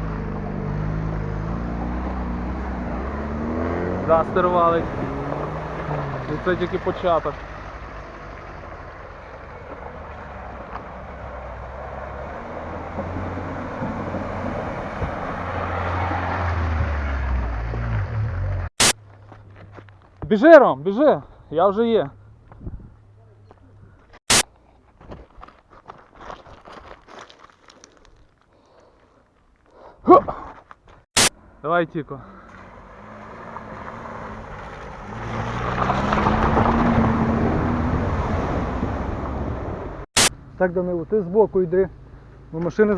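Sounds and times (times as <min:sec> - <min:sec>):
car engine straining uphill: 0:00.0 - 0:24.3, 0:30.8 - 0:42.9.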